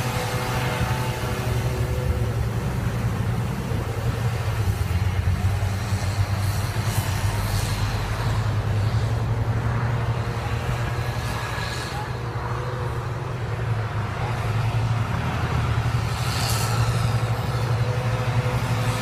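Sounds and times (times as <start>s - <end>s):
tractor engine running under load: 0.0s - 19.0s.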